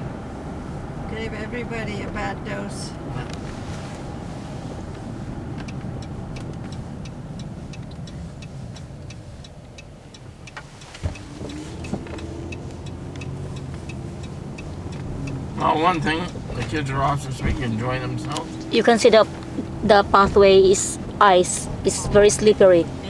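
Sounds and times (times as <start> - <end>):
car engine and road rumble: 0.0 - 23.0
light regular ticking: 0.5 - 23.0.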